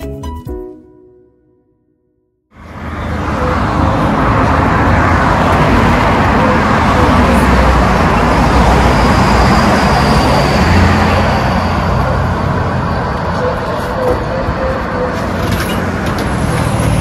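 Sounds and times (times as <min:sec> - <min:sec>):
busy road traffic: 0:02.5 - 0:17.0.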